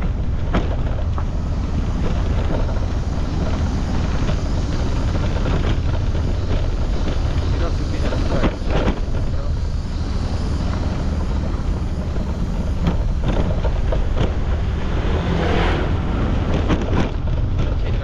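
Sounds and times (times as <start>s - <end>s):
road noise: 0.0s - 18.0s
scooter engine: 0.0s - 18.0s
wind buffeting microphone: 0.0s - 18.0s.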